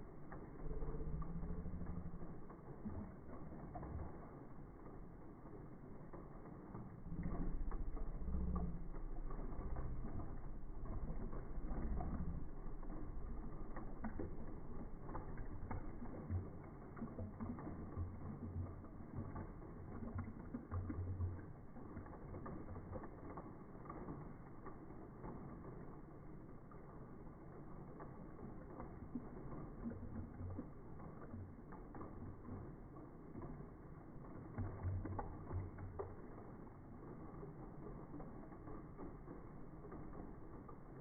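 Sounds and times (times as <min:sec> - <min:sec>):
scattered clicks: 0:00.0 - 0:41.0
slowed liquid pouring rumble: 0:00.0 - 0:41.0.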